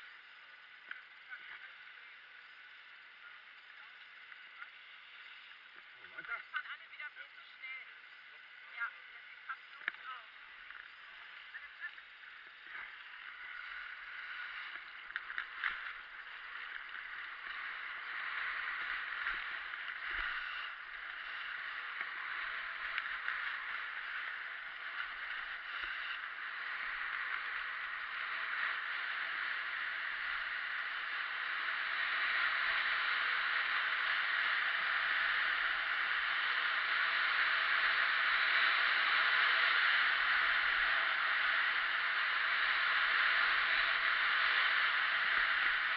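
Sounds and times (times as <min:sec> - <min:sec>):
skis hissing over snow: 0:00.0 - 0:45.9.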